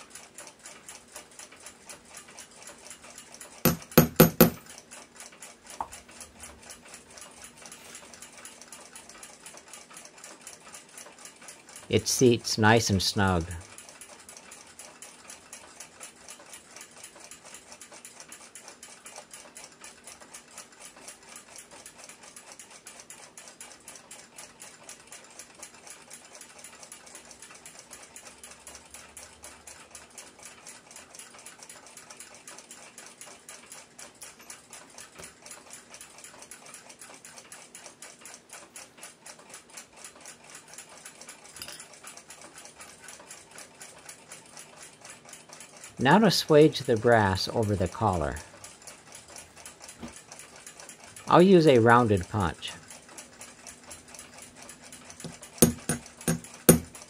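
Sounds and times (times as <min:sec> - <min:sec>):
clock ticking rapidly: 0:00.0 - 0:57.0.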